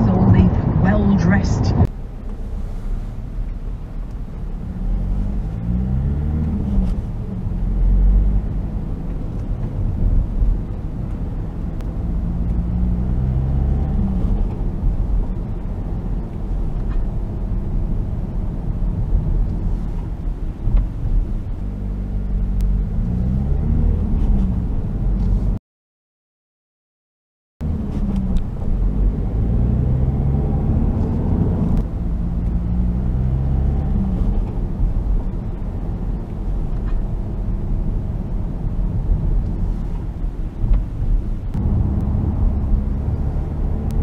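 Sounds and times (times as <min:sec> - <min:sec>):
car engine accelerating: 0:00.0 - 0:25.6, 0:27.6 - 0:44.0
road rumble: 0:00.0 - 0:25.6, 0:27.6 - 0:44.0.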